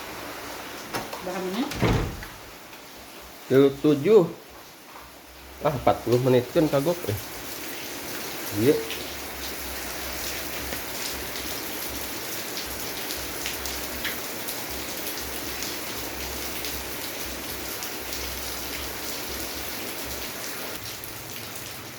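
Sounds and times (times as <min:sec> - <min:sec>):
raindrops pattering on a surface: 0:00.0 - 0:21.9
steady rain hiss: 0:00.0 - 0:21.9.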